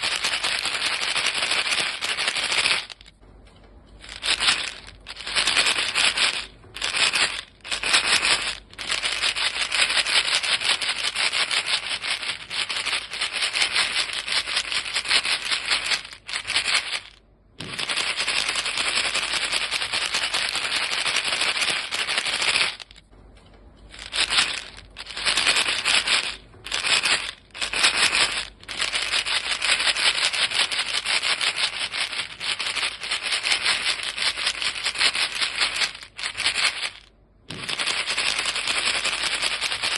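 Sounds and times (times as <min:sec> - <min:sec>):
gum pellets rattling in box: 0:00.0 - 0:03.2, 0:04.0 - 0:23.1, 0:23.8 - 0:39.9.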